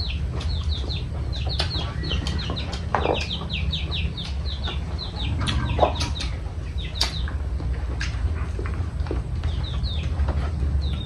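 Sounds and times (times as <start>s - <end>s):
birds peeping: 0.0s - 11.0s
low hum: 0.0s - 11.0s.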